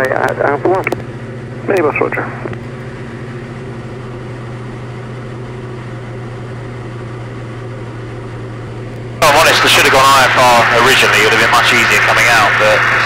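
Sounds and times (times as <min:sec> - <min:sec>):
aircraft engine drone in cockpit: 0:00.0 - 0:13.0.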